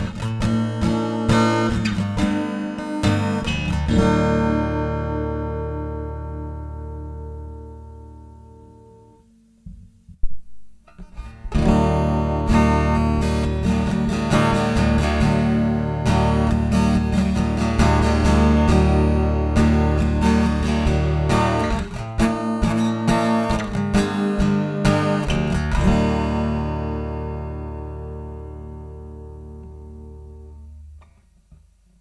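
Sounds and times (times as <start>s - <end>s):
acoustic guitar strummed: 0.0s - 31.2s.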